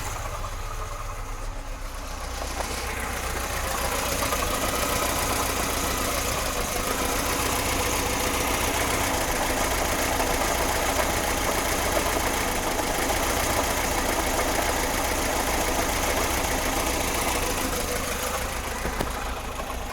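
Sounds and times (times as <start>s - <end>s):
engine running with knock: 0.0s - 19.9s.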